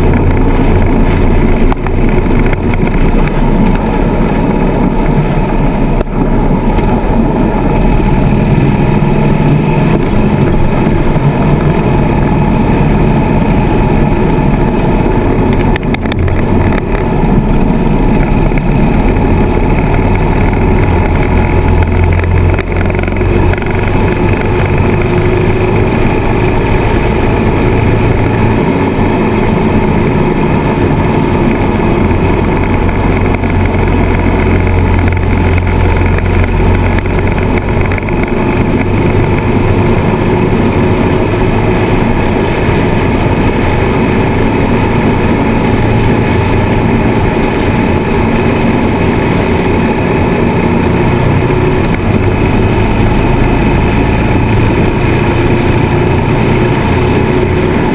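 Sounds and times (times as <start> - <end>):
motorcycle engine running: 0.0 - 57.9
wind noise over microphone: 0.0 - 57.9.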